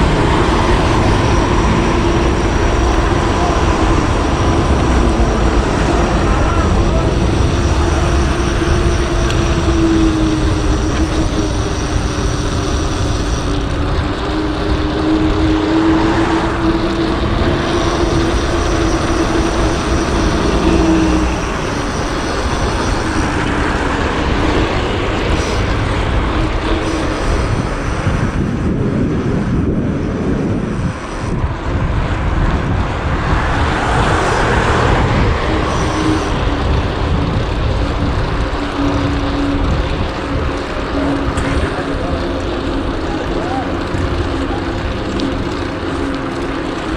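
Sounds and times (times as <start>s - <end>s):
road traffic: 0.0s - 46.9s
steady engine hum: 0.0s - 46.9s
wind rushing over microphone: 0.0s - 46.9s.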